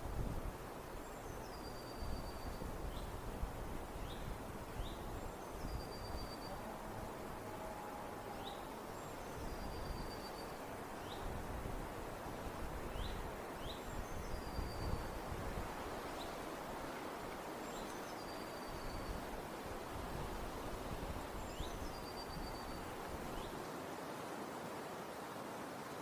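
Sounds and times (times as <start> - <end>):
wind and rustling: 0.0 - 26.0.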